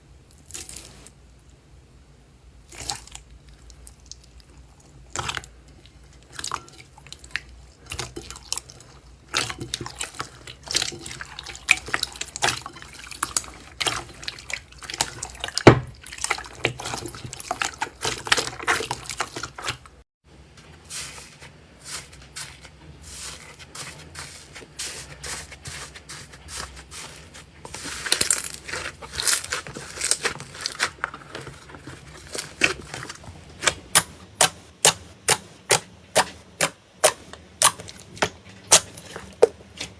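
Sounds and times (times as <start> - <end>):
slime squelching: 2.7 - 20.0, 20.8 - 39.9.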